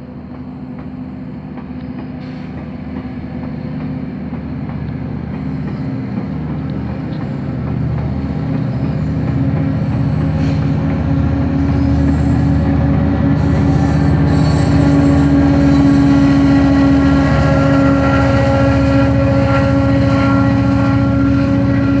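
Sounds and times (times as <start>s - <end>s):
diesel locomotive engine running: 0.0s - 22.0s.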